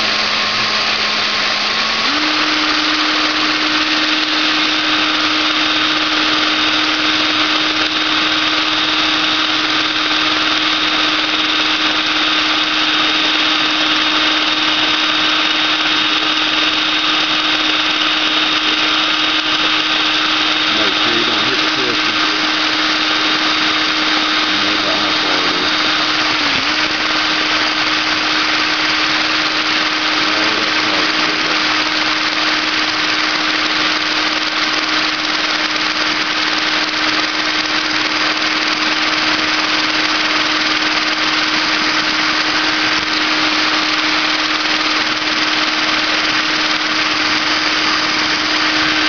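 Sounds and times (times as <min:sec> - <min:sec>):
high-speed rotary tool whine: 0:00.0 - 0:49.0.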